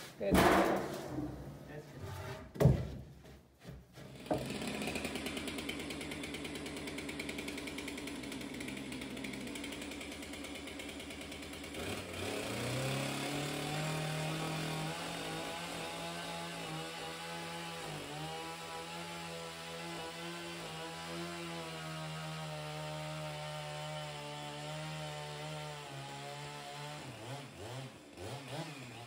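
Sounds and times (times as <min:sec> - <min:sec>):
chainsaw idling and revving: 0:04.1 - 0:29.0.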